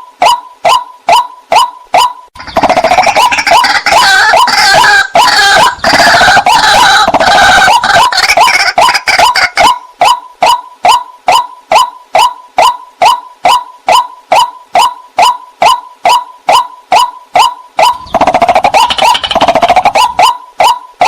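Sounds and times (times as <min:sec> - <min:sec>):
waterhen calling: 0:00.2 - 0:20.8.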